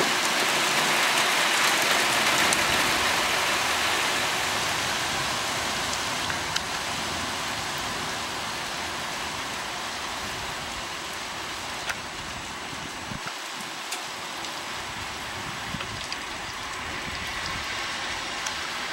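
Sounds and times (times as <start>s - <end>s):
heavy rain hissing: 0.0s - 18.9s.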